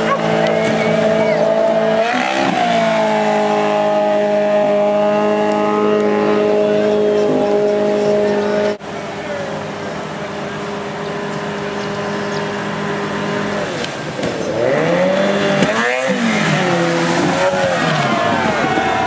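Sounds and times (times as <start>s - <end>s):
outboard engine revving: 0.0s - 19.0s
rushing white water: 0.0s - 19.0s.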